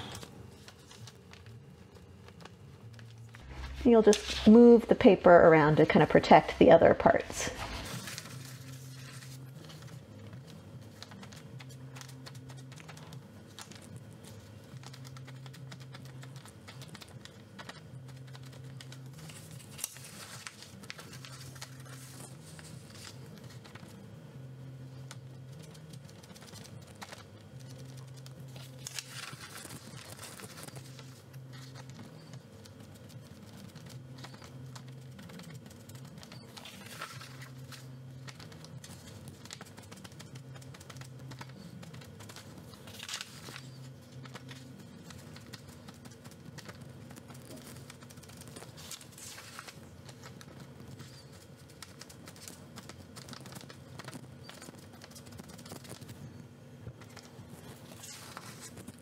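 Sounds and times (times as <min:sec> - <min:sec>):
paper rustling: 0:00.0 - 0:05.2, 0:07.2 - 0:24.0, 0:24.9 - 0:56.2, 0:57.0 - 0:59.0.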